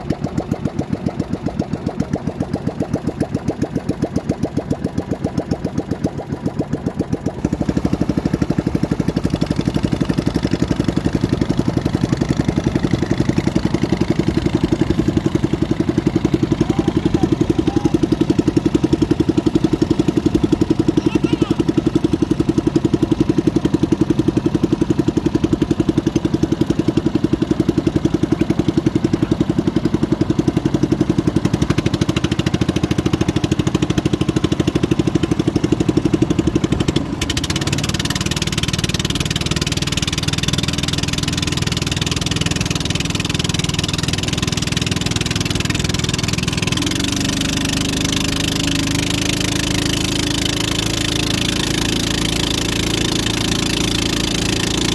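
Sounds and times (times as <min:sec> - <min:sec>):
boat engine putter: 0:00.0 - 0:54.9.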